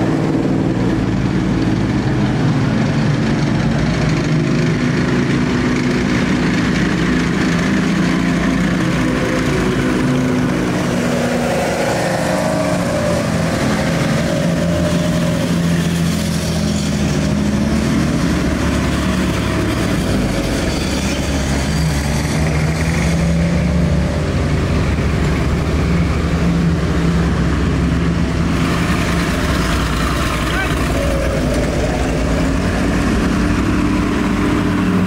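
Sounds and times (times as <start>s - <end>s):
military vehicle engines droning: 0.0s - 35.0s.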